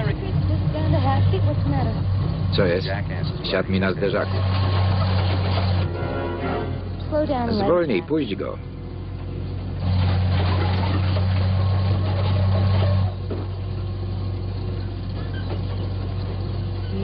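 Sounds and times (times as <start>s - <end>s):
heavy vehicle engine drone: 0.0s - 17.0s.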